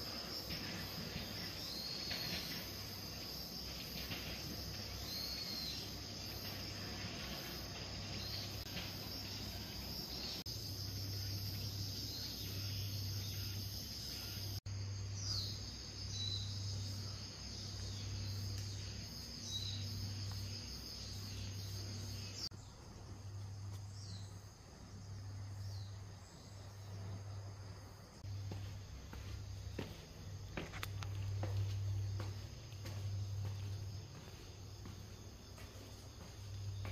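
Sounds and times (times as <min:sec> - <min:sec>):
high-pitched insect chorus: 0:00.0 - 0:36.9.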